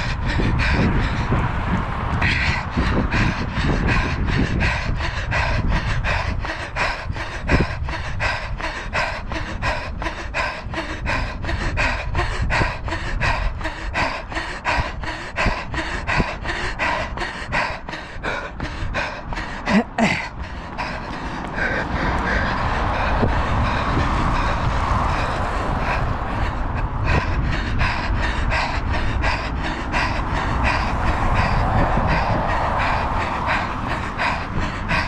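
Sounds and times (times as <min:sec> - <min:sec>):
runner panting: 0:00.0 - 0:35.0
wind rumbling on microphone: 0:00.0 - 0:35.0.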